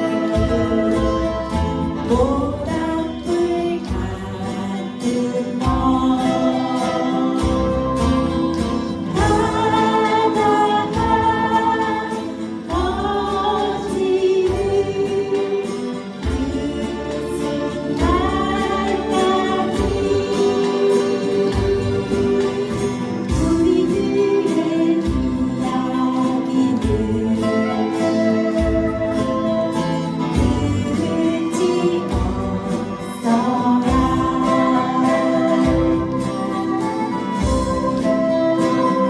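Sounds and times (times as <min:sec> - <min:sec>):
folk song singing: 0:00.0 - 0:39.0
strummed acoustic guitar: 0:00.0 - 0:39.0.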